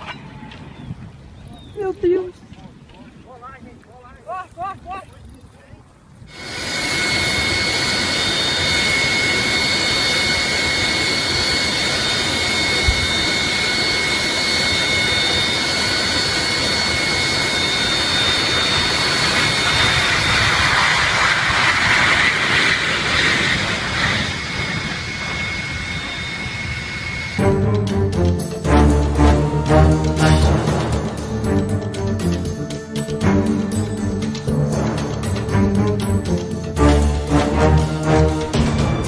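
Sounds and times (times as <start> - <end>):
jet engine whine: 6.1 - 39.0
jet engine roar: 6.3 - 39.0.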